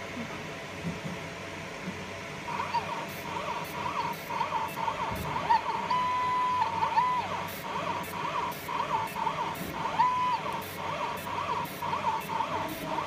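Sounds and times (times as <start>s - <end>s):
laser marking head chirps: 2.5s - 13.0s
steady held tone: 2.5s - 13.0s.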